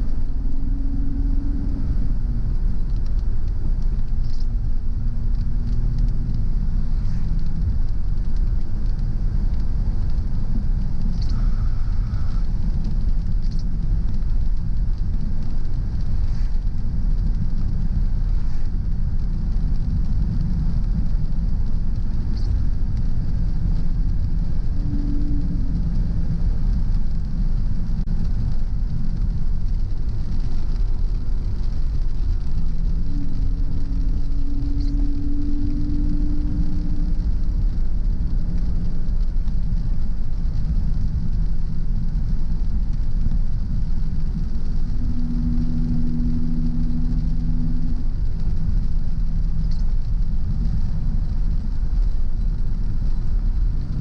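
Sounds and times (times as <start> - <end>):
car engine and tyre rumble: 0.0 - 54.0
faint light ticks: 0.1 - 54.0.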